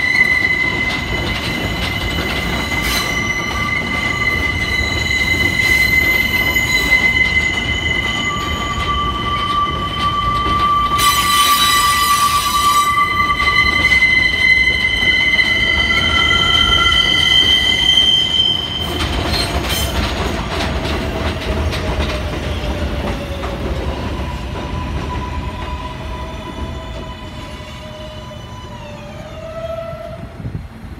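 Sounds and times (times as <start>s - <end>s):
subway wheels squealing: 0.0s - 30.6s
train rumble: 0.0s - 30.9s.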